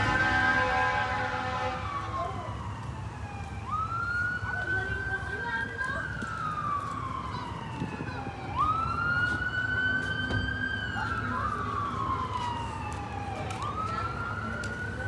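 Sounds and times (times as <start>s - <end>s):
low traffic rumble: 0.0s - 15.0s
siren wailing: 0.0s - 15.0s.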